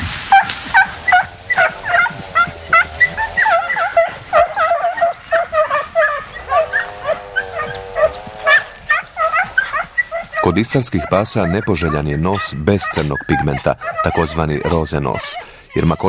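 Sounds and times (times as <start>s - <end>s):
hounds yelping: 0.3s - 16.0s.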